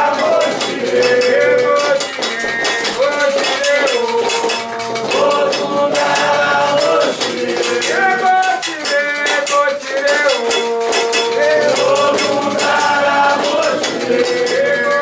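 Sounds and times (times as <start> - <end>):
chant with gliding notes: 0.0 - 15.0
shaker percussion: 0.0 - 15.0
struck bell: 0.0 - 15.0.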